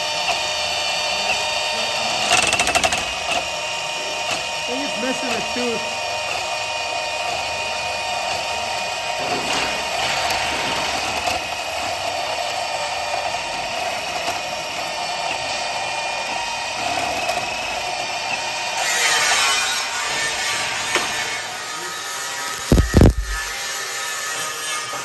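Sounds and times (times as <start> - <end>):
power tool whining: 0.0 - 25.0.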